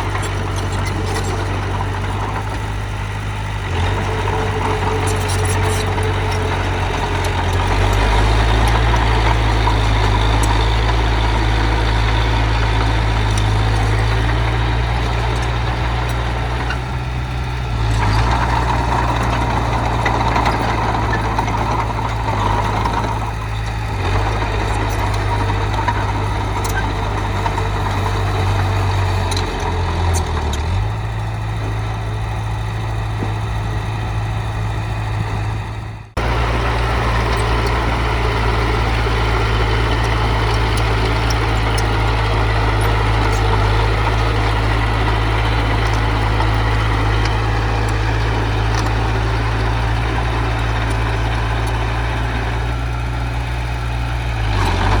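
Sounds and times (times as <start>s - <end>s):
diesel engine deep hum: 0.0s - 55.0s.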